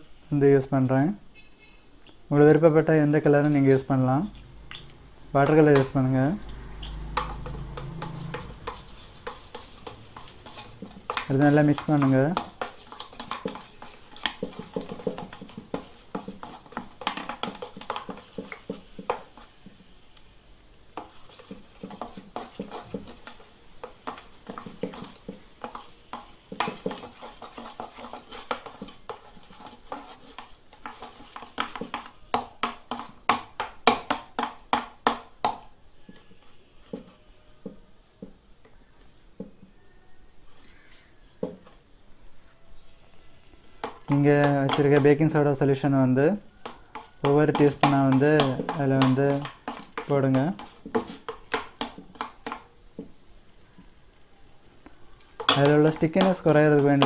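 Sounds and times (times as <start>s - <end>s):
utensil stirring in a bowl: 2.3s - 39.7s, 43.2s - 53.7s, 54.8s - 57.0s.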